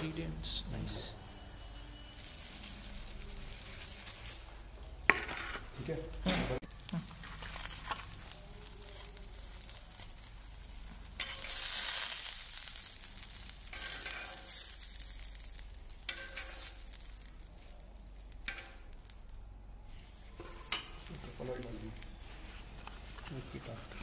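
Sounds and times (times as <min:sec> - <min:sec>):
food sizzling on a griddle: 0:00.0 - 0:24.0.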